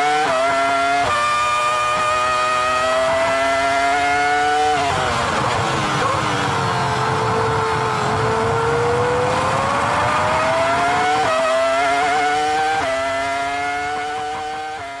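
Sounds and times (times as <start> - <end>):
racing engine revving through gears: 0.0 - 15.0.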